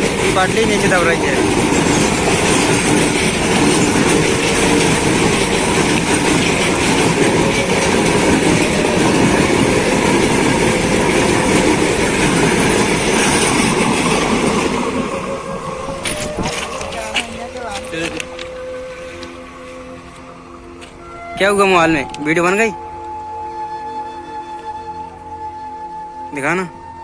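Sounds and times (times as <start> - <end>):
train passing: 0.0 - 27.0.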